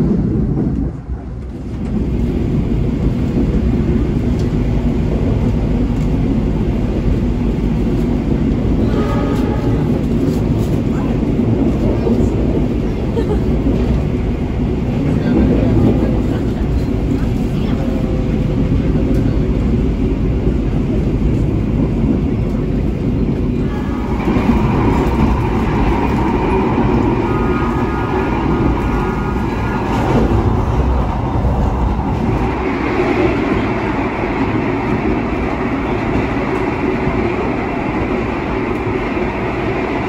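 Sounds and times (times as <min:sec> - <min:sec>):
train wheels rumbling: 0:00.0 - 0:40.0.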